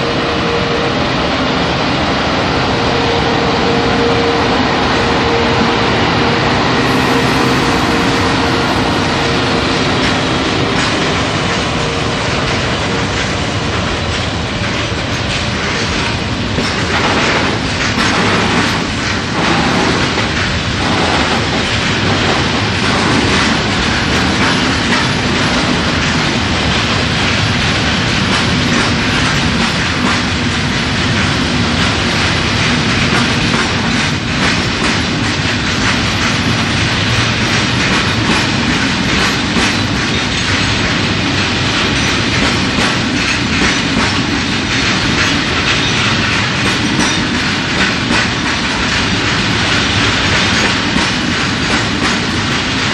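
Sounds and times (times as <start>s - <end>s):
freight train wagons rattling: 6.7s - 52.9s.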